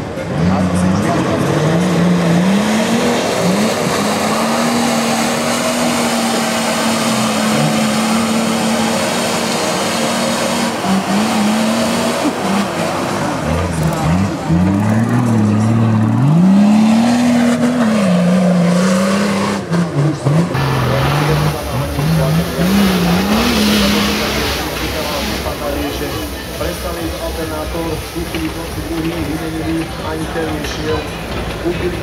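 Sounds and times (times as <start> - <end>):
engine revving under load: 0.0 - 32.0.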